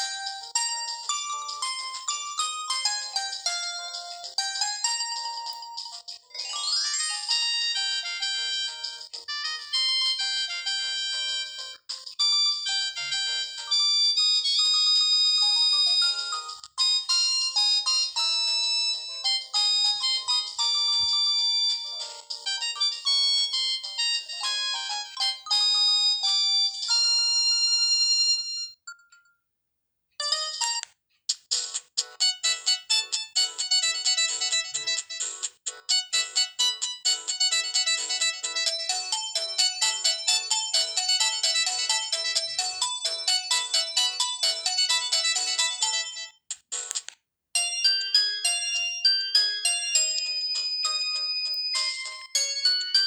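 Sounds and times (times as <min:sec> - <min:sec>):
electronic ringtone melody: 0:00.0 - 0:29.3, 0:30.2 - 0:30.8, 0:32.2 - 0:46.4, 0:47.6 - 0:53.0.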